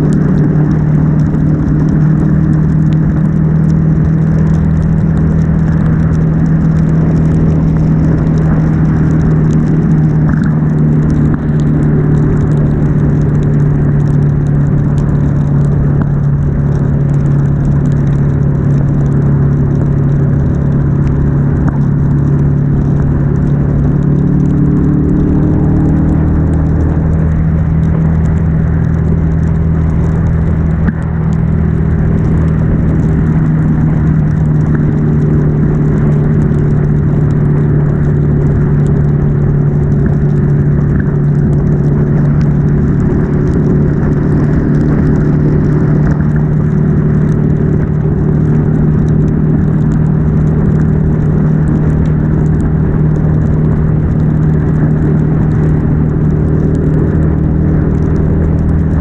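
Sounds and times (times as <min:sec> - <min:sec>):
motorcycle engine cruising: 0:00.0 - 0:59.0
wind and wet road spray hiss: 0:00.0 - 0:59.0.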